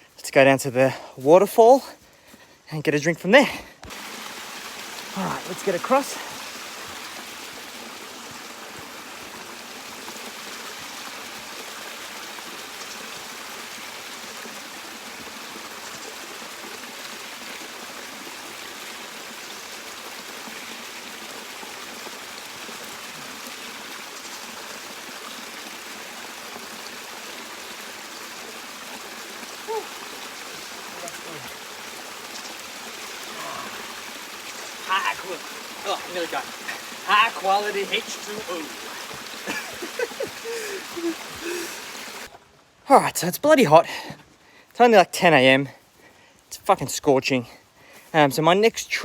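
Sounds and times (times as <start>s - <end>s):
creek water rushing: 3.4s - 45.0s.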